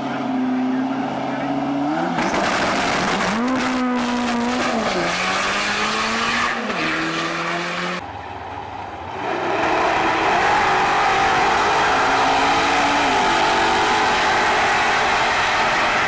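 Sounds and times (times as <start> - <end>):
drag racing car accelerating: 0.0 - 8.0, 9.0 - 16.0
car engine: 0.0 - 16.0.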